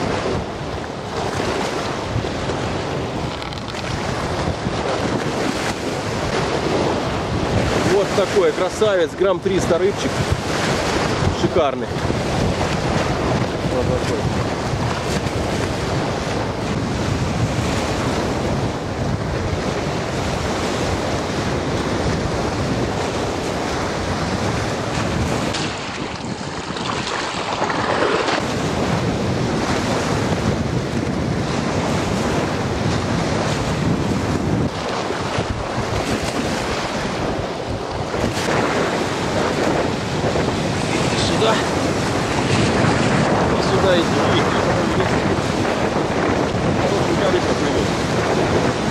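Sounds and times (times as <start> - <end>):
storm waves breaking: 0.0 - 48.9
wind buffeting microphone: 0.0 - 48.9.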